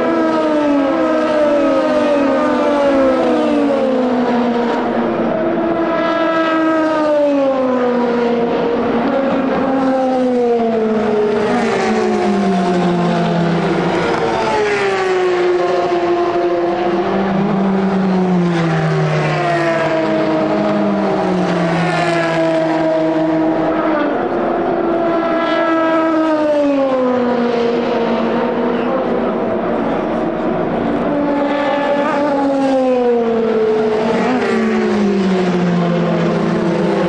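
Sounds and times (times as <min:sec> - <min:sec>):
race car engines at high revs: 0:00.0 - 0:37.0.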